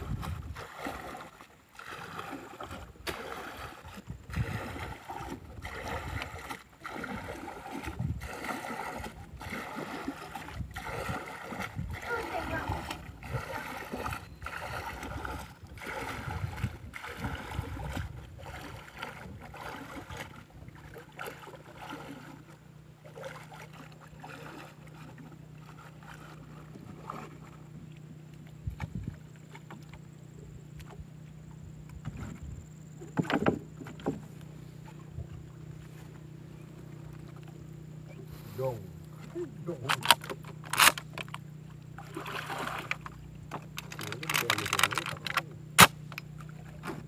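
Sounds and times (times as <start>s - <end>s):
steady low hum: 0.0s - 47.0s
water sloshing and splashing: 0.0s - 47.0s.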